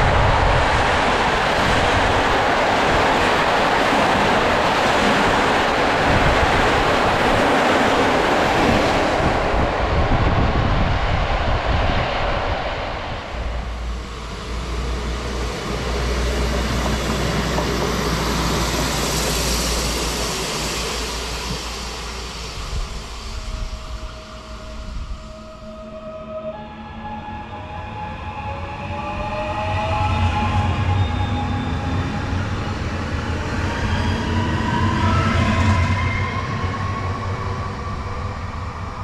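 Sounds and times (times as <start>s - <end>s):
railcar low rumble: 0.0s - 39.0s
train carriages rushing past: 0.0s - 39.0s.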